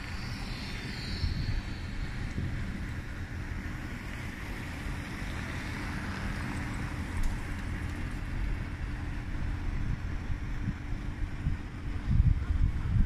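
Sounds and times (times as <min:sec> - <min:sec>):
city traffic: 0:00.0 - 0:12.0
wind rumble on microphone: 0:00.0 - 0:13.0.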